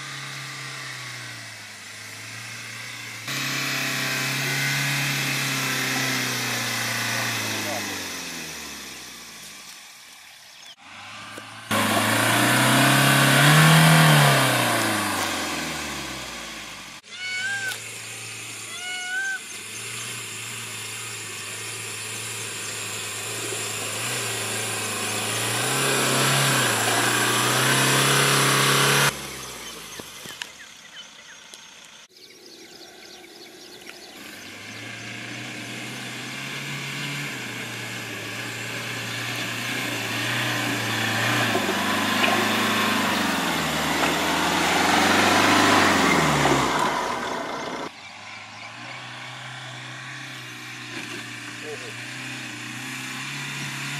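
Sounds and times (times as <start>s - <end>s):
engine labouring in low gear: 0.0s - 53.9s.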